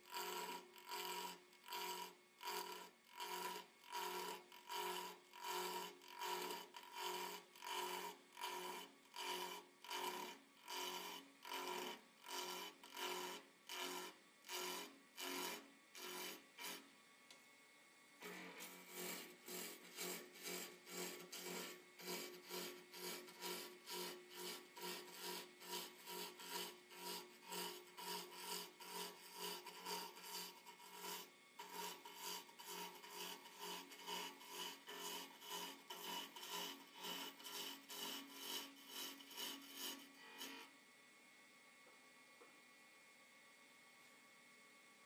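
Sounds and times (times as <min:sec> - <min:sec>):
chisel scraping wood on a lathe: 0:00.0 - 0:16.9, 0:18.2 - 0:40.7.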